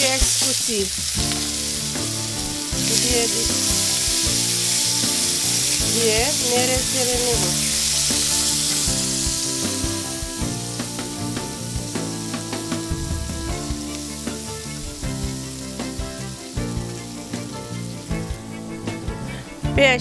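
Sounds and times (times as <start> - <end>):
onion sizzling in hot oil: 0.0 - 19.8.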